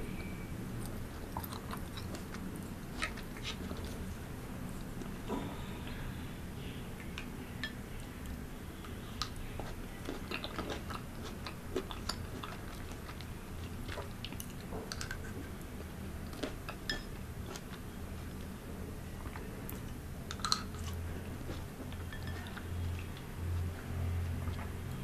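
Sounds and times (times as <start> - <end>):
soft chewing: 0.1 - 25.0.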